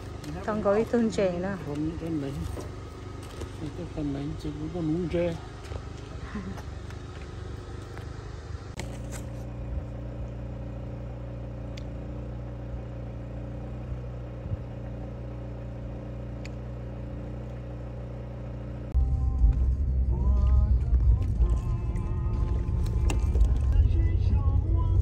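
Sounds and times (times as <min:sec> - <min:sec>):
steady low engine hum: 0:00.0 - 0:25.0.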